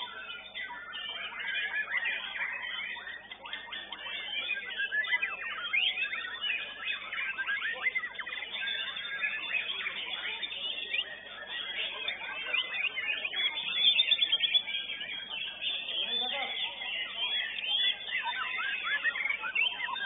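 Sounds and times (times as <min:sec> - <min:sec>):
birds singing in chorus: 0:00.0 - 0:20.0.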